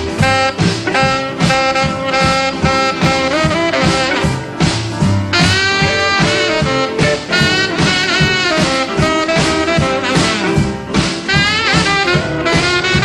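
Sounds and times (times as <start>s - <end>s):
saxophone horn section riffing: 0.0s - 13.0s
swinging rhythm section beat: 0.0s - 13.0s.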